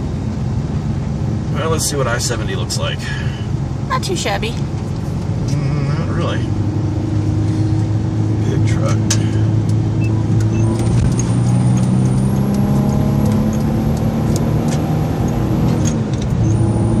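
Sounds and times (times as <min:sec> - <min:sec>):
truck engine and tyre noise: 0:00.0 - 0:17.0.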